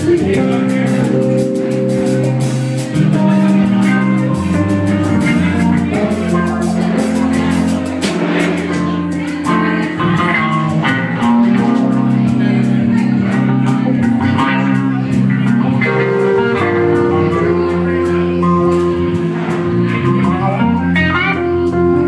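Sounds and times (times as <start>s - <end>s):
bass line: 0.0s - 22.0s
drum kit and cymbals: 0.0s - 22.0s
guitar chords: 0.0s - 22.0s.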